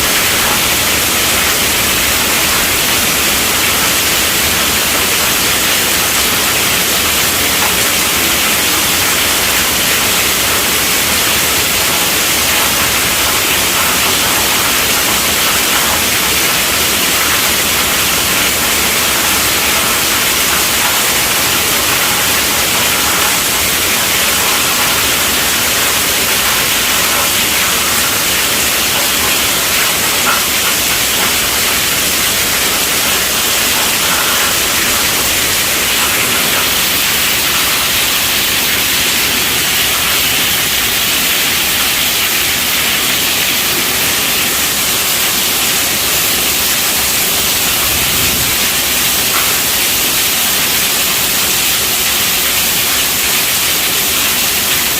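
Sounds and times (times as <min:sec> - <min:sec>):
heavy rain on a tent roof: 0:00.0 - 0:54.9.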